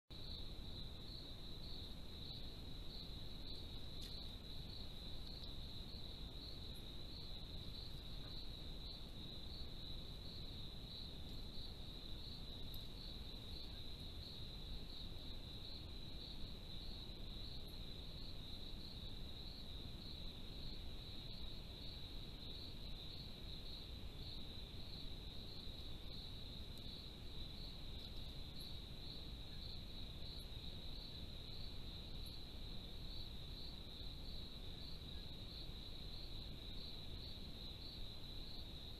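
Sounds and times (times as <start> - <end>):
crickets chirping: 0.1 - 38.9
low background hiss: 0.1 - 38.9.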